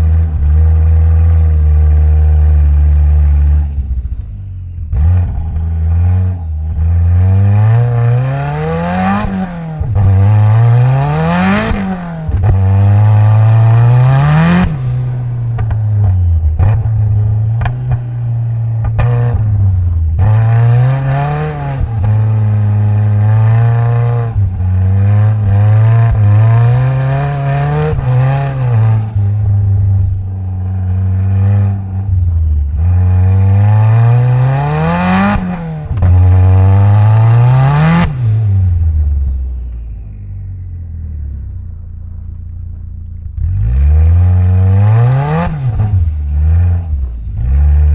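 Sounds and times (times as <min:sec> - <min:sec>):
car engine revving: 0:00.0 - 0:47.9
high turbo whine: 0:00.0 - 0:47.9
sharp exhaust cracks: 0:03.3 - 0:43.4.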